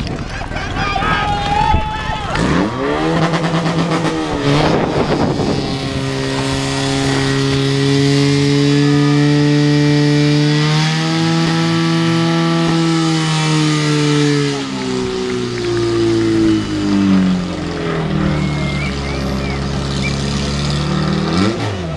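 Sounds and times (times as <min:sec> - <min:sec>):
pump engine buzzing at high revs: 0:01.9 - 0:21.9.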